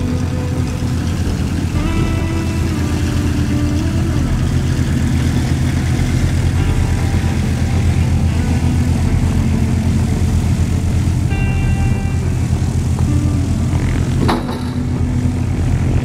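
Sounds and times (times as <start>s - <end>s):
propeller engines droning: 0.0s - 16.0s.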